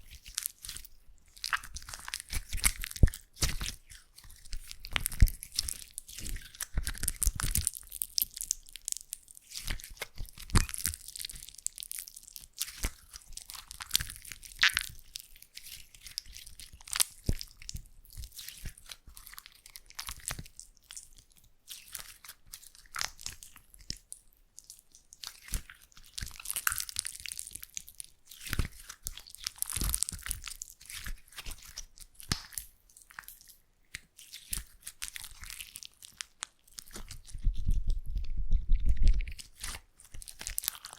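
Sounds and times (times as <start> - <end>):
slime crackling and popping: 0.0 - 40.9
slime squishing: 0.0 - 40.9.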